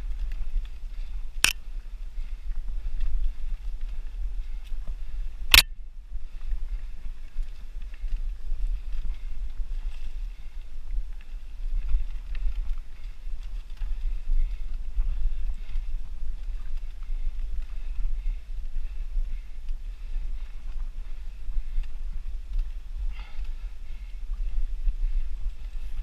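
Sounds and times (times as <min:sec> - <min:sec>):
wind and trail rumble: 0:00.0 - 0:26.0.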